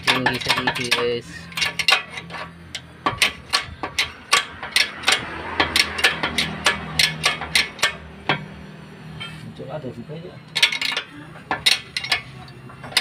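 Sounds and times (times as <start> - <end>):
hydraulic jack pump clicking: 0.0 - 8.4, 10.5 - 13.0.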